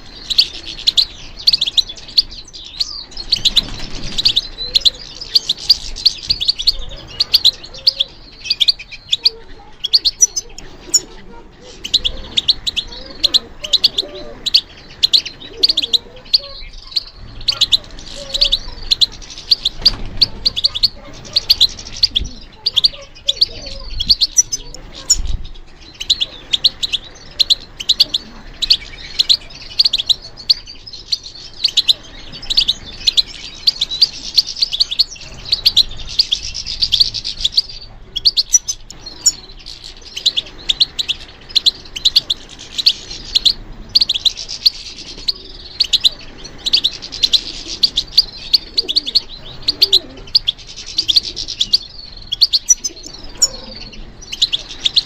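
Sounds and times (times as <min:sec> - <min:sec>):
goldfinch twittering: 0:00.0 - 0:55.0.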